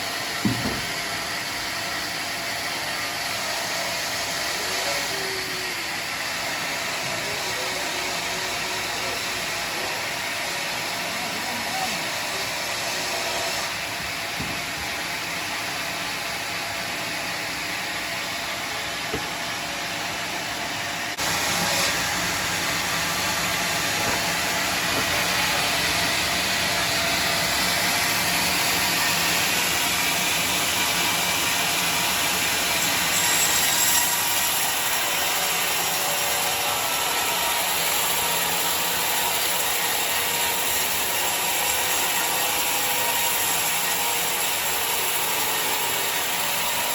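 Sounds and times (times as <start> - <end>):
sawmill saw running: 0.0 - 46.9.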